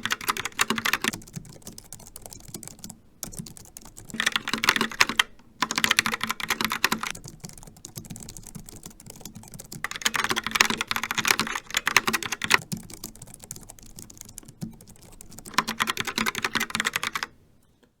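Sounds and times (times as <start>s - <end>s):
keyboard typing: 0.0s - 17.4s.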